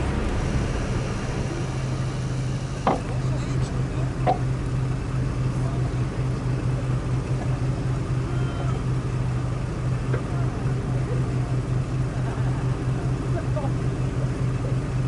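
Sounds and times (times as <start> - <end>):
off-road vehicle engine drone: 0.0 - 15.0.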